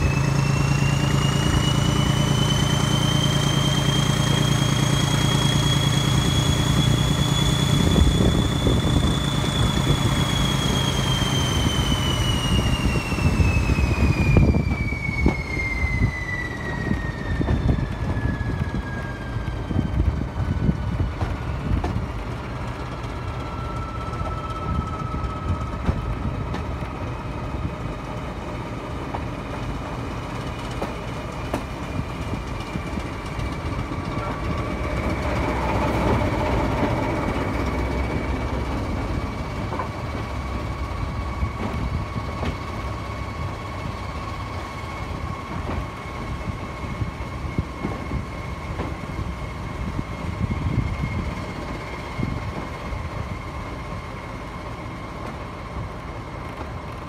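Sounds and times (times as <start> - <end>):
train coach rumbling on rails: 0.0 - 57.0
train whine: 0.0 - 57.0.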